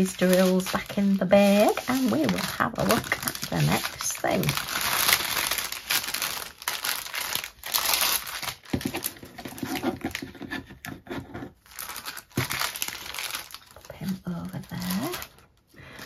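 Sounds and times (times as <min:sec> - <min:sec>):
plastic bags crinkling: 0:00.0 - 0:10.3, 0:11.6 - 0:16.0.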